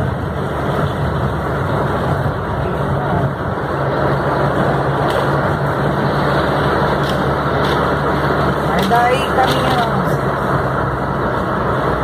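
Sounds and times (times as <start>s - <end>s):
engine hum: 0.0s - 12.0s
heavy rain on car roof: 0.0s - 12.0s
windshield wipers sweeping: 0.0s - 12.0s.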